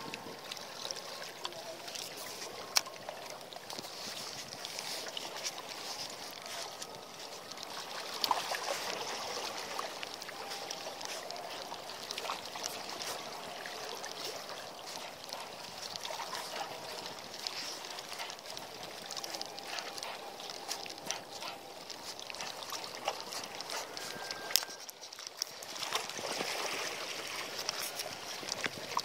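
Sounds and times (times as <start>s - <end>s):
small waves lapping: 0.0s - 29.0s.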